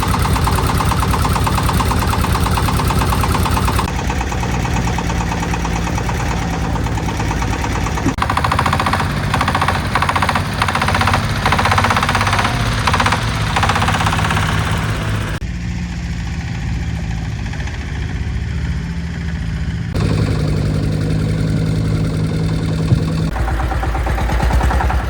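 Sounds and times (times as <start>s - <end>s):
diesel engine running: 0.0s - 25.0s
excavator working noise: 0.0s - 25.0s.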